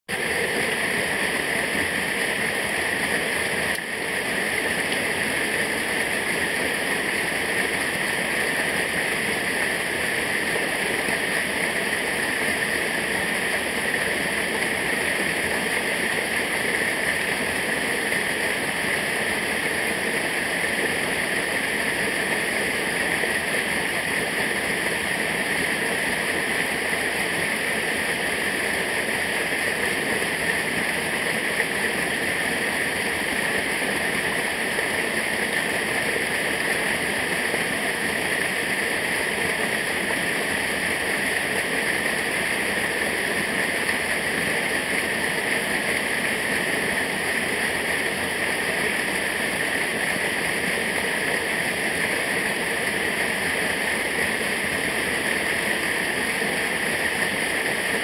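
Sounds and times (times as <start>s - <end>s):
stream cascading over rocks: 0.1s - 58.0s.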